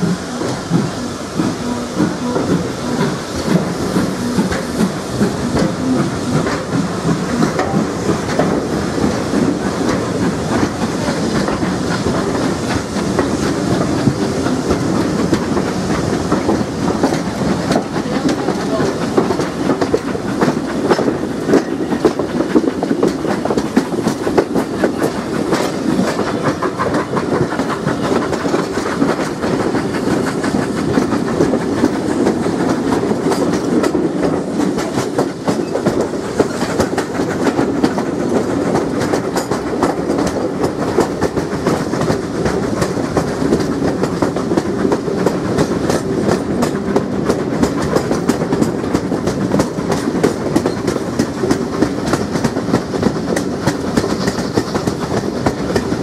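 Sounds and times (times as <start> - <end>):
steam locomotive exhaust: 0.0 - 56.0
train wheels clattering over rail joints: 0.0 - 56.0.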